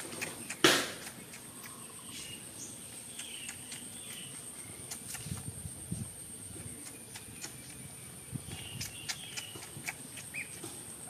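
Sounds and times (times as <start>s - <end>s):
faint bird chirps: 0.0s - 10.6s
insects droning: 0.0s - 11.0s.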